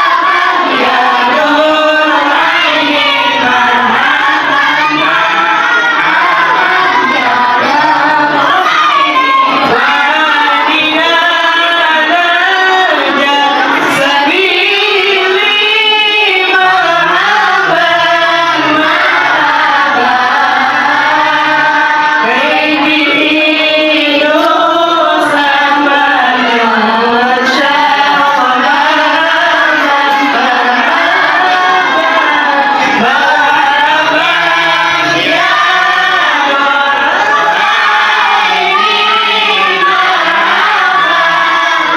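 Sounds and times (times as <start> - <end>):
voices singing devotional song: 0.0 - 41.9.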